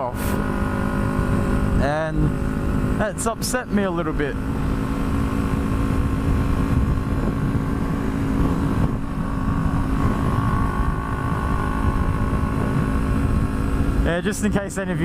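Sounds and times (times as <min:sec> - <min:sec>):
small motorcycle engine running: 0:00.0 - 0:15.0
wind rumble on microphone: 0:00.0 - 0:15.0.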